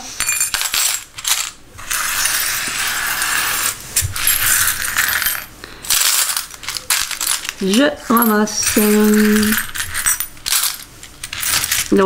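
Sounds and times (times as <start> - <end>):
small metal pieces jangling: 0.2 - 12.0.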